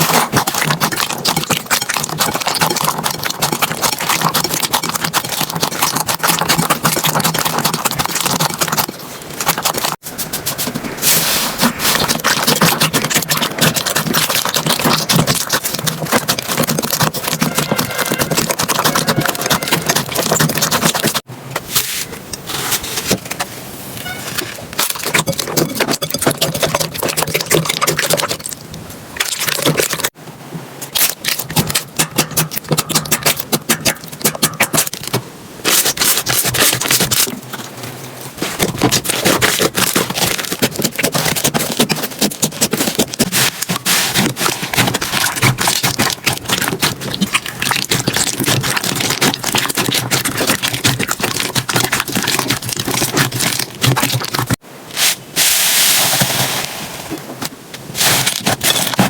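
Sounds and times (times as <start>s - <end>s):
slime squishing and crackling: 0.0s - 21.3s, 24.4s - 30.2s, 30.8s - 55.2s, 57.9s - 59.0s.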